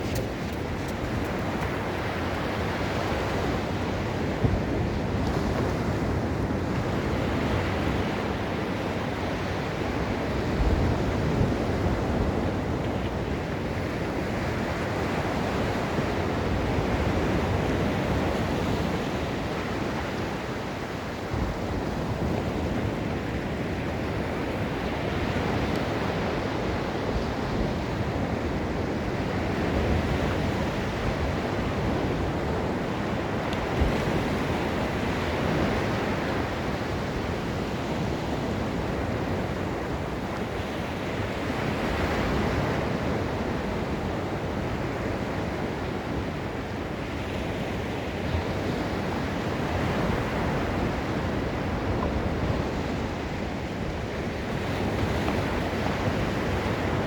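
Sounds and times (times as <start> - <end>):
ocean surf on beach: 0.0 - 57.0
wind buffeting microphone: 0.0 - 57.0.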